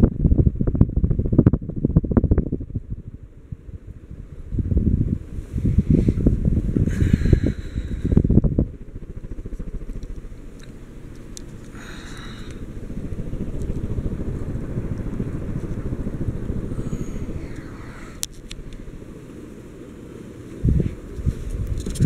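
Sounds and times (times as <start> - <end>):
ceiling fan whooshing: 0.0 - 22.0.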